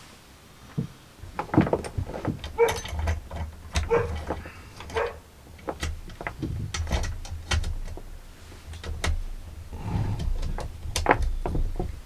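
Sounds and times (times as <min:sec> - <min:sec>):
tools clicking and knocking: 0:01.3 - 0:12.0.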